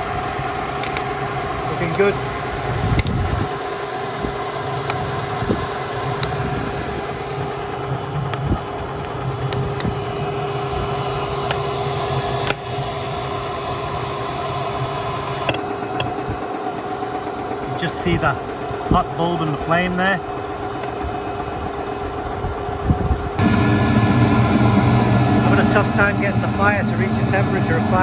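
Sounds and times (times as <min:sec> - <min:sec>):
engine and cooling fan humming: 0:00.0 - 0:28.0.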